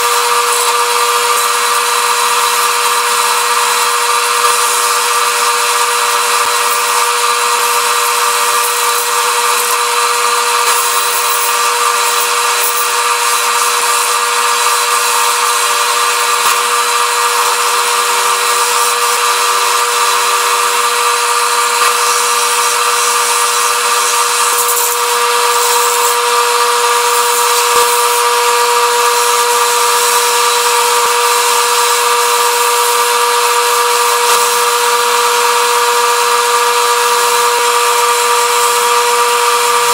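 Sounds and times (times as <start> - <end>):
wood lathe motor whine: 0.0 - 39.9.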